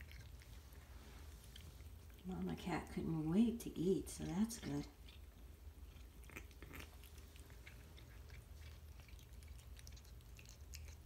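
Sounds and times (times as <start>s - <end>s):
cat chewing wet food: 0.0s - 3.3s, 4.2s - 11.0s
low room hum: 0.0s - 11.0s.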